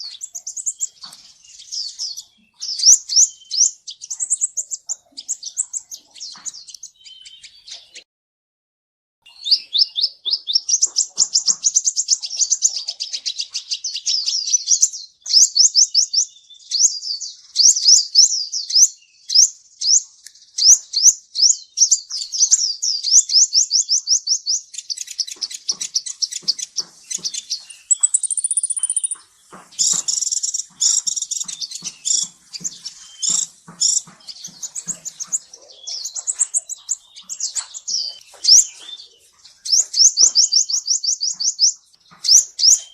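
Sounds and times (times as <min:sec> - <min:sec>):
sunbird singing: 0:00.0 - 0:08.0, 0:09.2 - 0:42.9.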